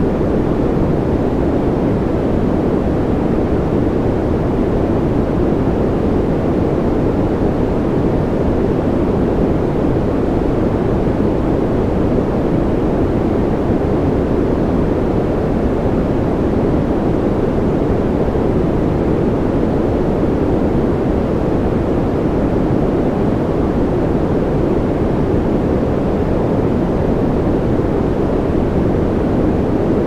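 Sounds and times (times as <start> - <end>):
deep white noise hiss: 0.0 - 30.0.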